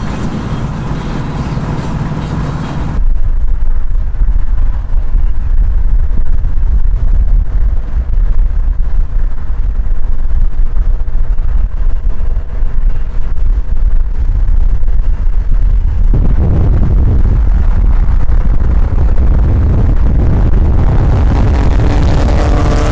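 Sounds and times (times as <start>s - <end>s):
car engine rumble: 0.0s - 22.9s
road and wind noise: 0.0s - 22.9s.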